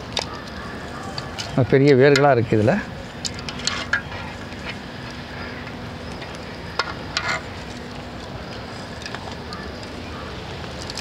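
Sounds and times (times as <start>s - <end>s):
rustling and crackling of roots: 0.0s - 11.0s
steady background hum: 0.0s - 11.0s.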